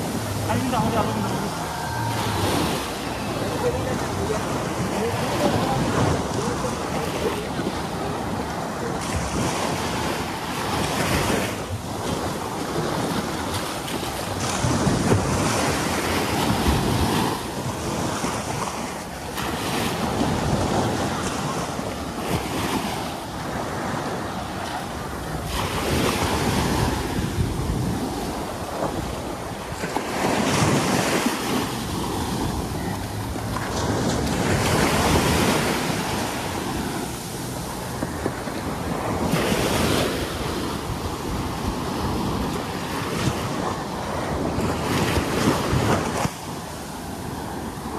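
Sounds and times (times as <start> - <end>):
surf breaking on a beach: 0.0 - 47.9
wind buffeting microphone: 0.0 - 47.9.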